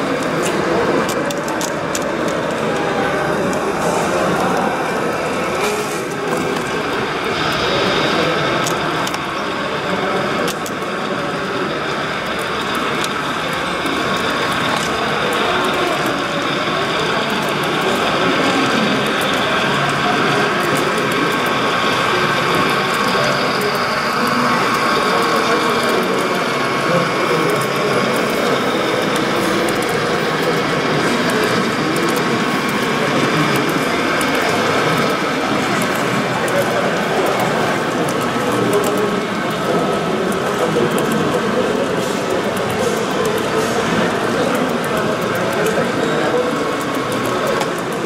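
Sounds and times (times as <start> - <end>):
large hall background noise: 0.0 - 48.0
light clicks of train: 0.0 - 48.0
model train rumbling on track: 0.0 - 48.0.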